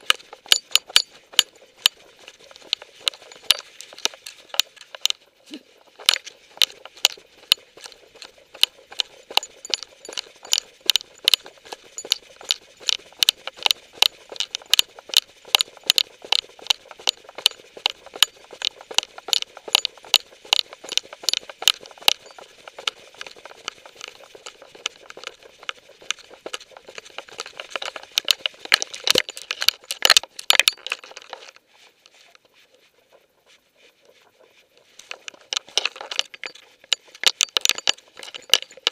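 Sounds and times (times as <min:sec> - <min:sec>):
collar hardware clicking and rattling: 0:00.0 - 0:05.2, 0:05.9 - 0:31.5, 0:35.1 - 0:38.9.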